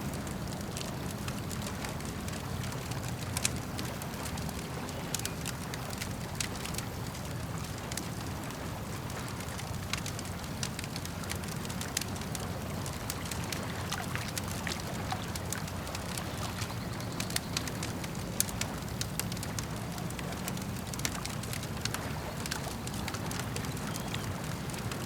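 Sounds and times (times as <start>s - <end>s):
campfire crackling and popping: 0.0s - 25.0s
low rumble of flames: 0.0s - 25.0s.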